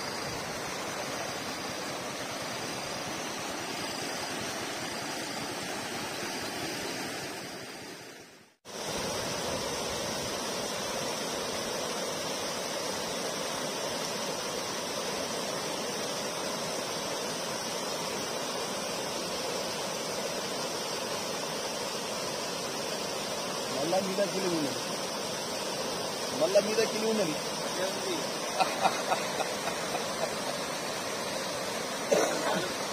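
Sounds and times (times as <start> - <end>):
floodwater rushing: 0.0 - 32.9.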